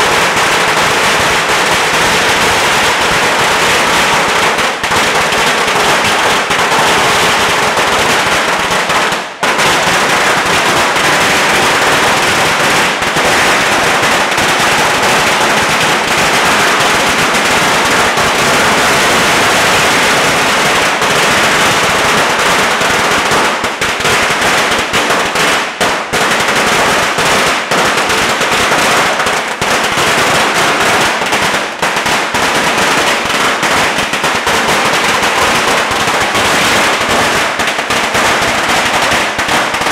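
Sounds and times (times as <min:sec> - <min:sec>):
firecrackers exploding: 0:00.0 - 0:39.9.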